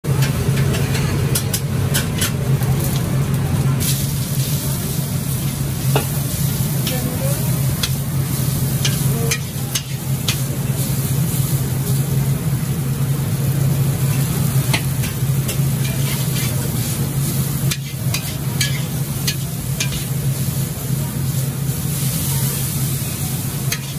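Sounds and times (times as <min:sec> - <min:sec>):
noodles sizzling in a wok: 0:00.1 - 0:23.9.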